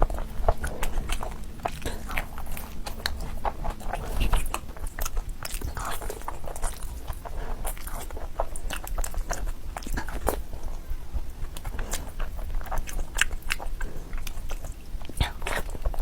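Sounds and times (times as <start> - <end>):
person chewing crunchy food: 0.0 - 16.0.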